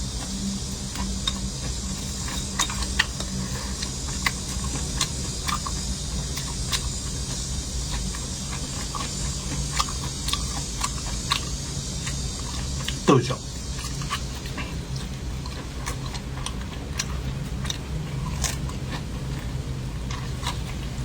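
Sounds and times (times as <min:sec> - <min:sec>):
person chewing and crunching: 0:00.0 - 0:21.0
steady low hum and hiss: 0:00.0 - 0:21.0.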